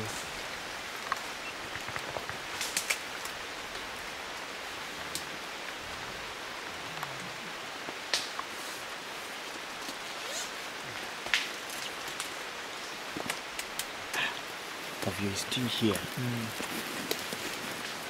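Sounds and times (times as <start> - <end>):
rain falling on foliage: 0.0 - 18.0.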